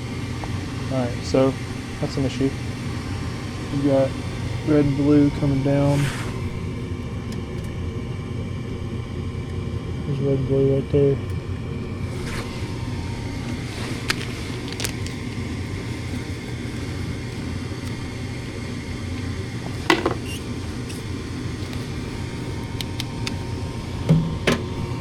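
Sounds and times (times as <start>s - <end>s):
furnace motor humming: 0.0s - 25.0s.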